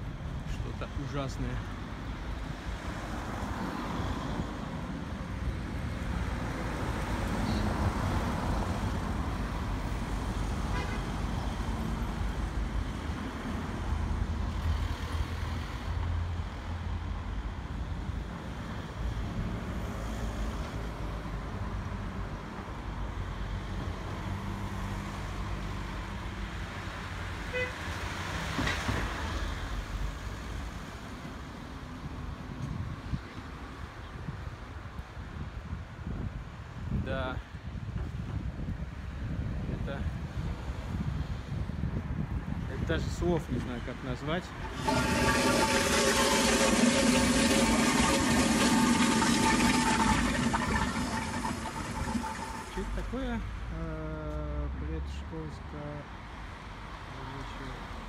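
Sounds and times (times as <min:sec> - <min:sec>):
cars passing on a street: 0:00.0 - 0:58.0.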